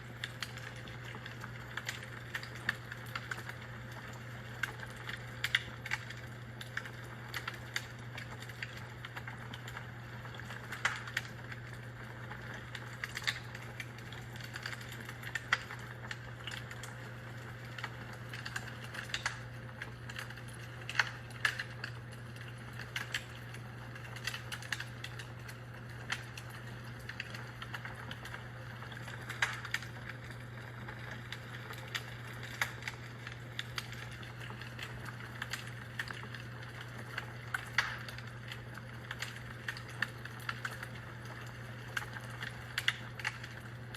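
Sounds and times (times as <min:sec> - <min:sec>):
fire crackling: 0:00.0 - 0:43.9.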